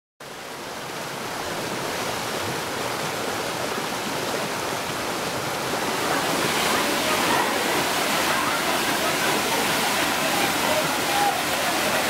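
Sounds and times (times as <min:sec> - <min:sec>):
waterfall roaring: 0:00.2 - 0:12.0.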